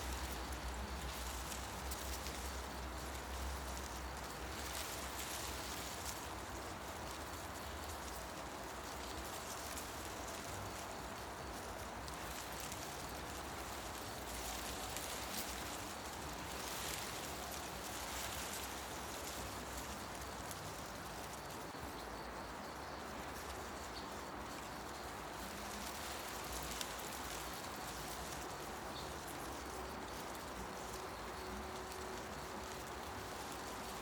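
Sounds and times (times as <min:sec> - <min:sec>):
wind rustling tree leaves: 0:00.0 - 0:34.0.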